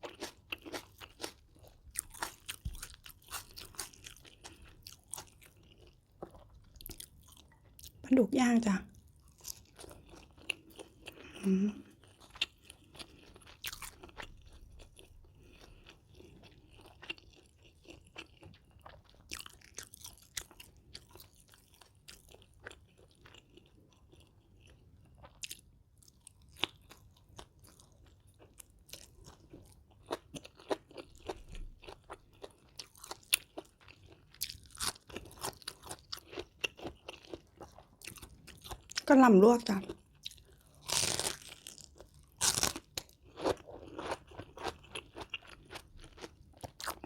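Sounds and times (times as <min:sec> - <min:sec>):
person chewing crunchy food: 0:00.0 - 0:08.0, 0:08.9 - 0:39.1, 0:39.8 - 0:47.0.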